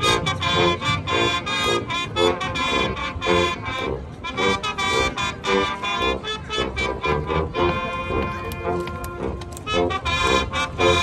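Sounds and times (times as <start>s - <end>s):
marching band brass: 0.0s - 11.0s.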